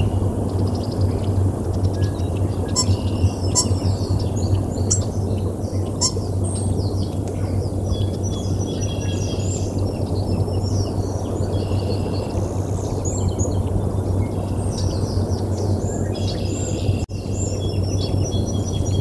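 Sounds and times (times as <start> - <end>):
songbirds chirping: 0.0 - 19.0
steady low hum: 0.0 - 19.0
wind rumbling on microphone: 0.0 - 19.0.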